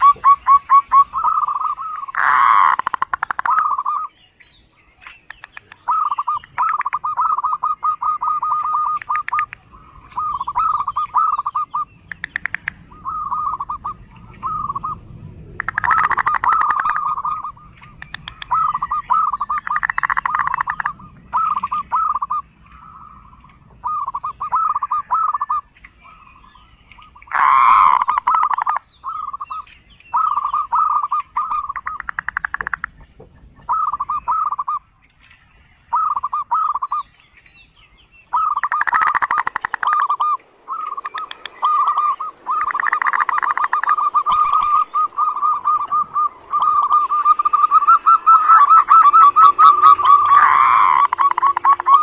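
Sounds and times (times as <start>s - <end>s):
dove rattling trilled call: 0.0s - 52.0s.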